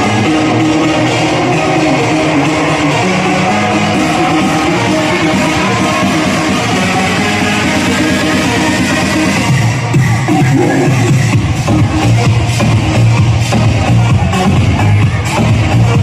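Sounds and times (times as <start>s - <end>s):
loud guitar music: 0.0s - 16.0s.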